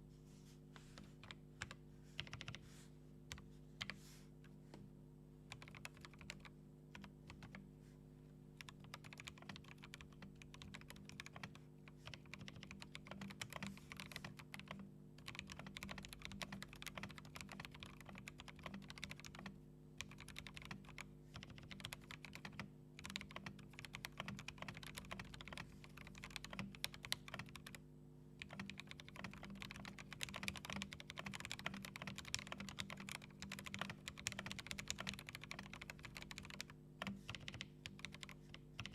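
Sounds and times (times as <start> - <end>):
fast mechanical keyboard typing: 1.6 - 2.6, 5.5 - 7.6, 8.6 - 27.8, 28.4 - 38.9.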